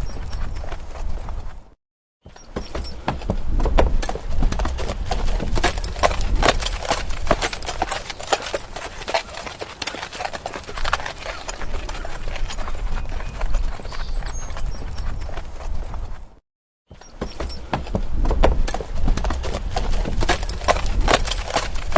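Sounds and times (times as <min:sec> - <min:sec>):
horse hooves clip-clopping: 0:00.0 - 0:21.9.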